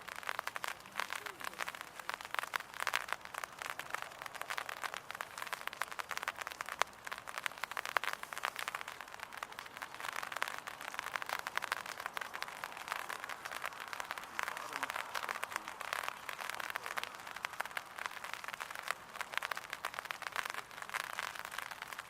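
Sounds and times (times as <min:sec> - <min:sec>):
rain pattering on an umbrella: 0:00.0 - 0:22.0.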